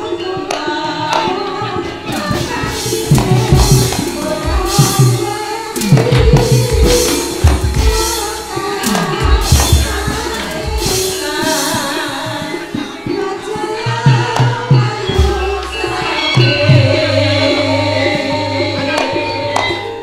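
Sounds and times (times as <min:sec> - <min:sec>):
ringing metallophone tones: 0:02.0 - 0:20.0.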